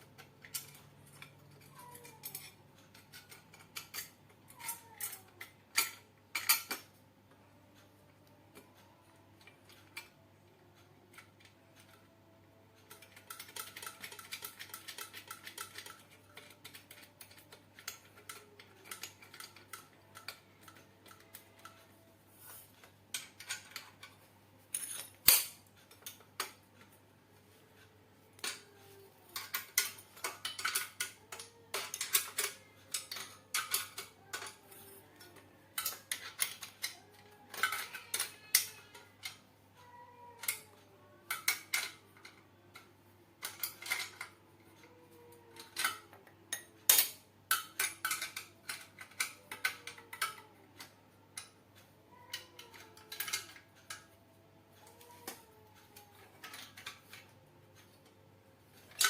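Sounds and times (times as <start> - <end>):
metal tools clinking: 0.1 - 6.9, 12.8 - 26.9, 28.4 - 54.1, 54.8 - 58.1.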